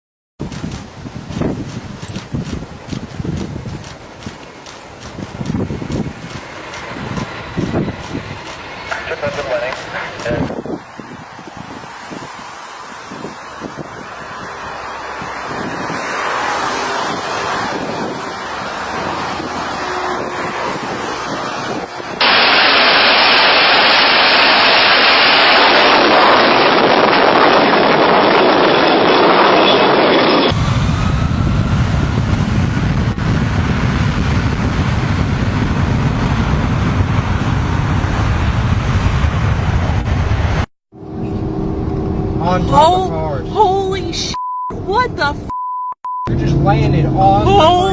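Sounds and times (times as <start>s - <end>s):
heavy low rumble: 0.4s - 11.8s, 17.2s - 45.6s, 46.3s - 47.9s
airplane engine and wind rush: 0.4s - 47.9s.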